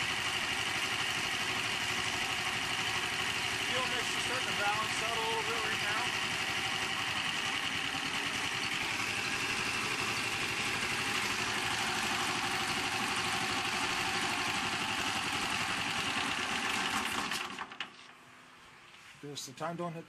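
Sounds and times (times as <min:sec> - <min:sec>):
engine running at fast idle: 0:00.0 - 0:18.0.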